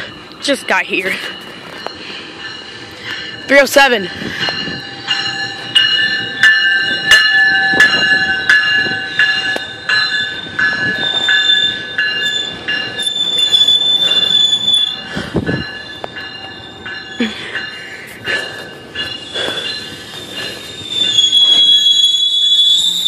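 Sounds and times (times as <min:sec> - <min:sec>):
train wheels squealing: 0:04.2 - 0:23.0.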